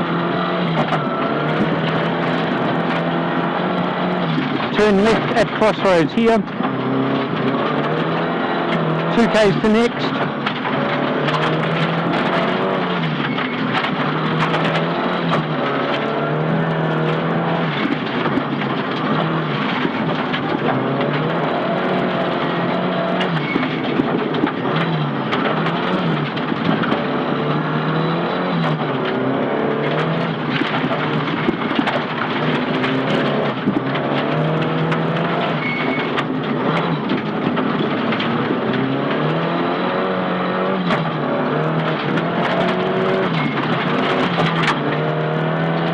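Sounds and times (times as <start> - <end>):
rally car engine revving: 0.0 - 45.9
road noise: 0.0 - 45.9
knocks and rattles: 0.1 - 45.9.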